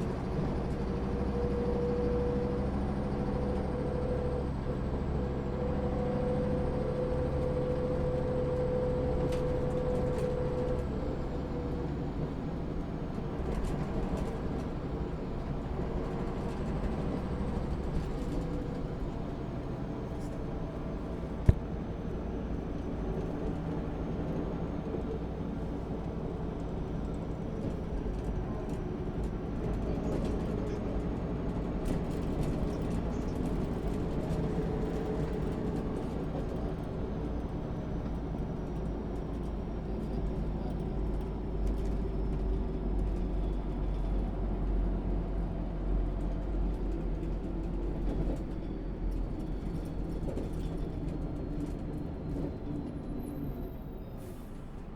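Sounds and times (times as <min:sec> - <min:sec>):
bus diesel engine drone: 0:00.0 - 0:54.9.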